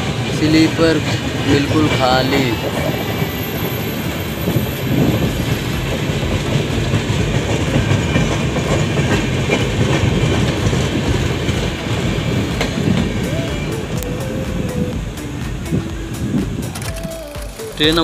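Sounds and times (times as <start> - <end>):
train wheels clattering on track: 0.0 - 16.7.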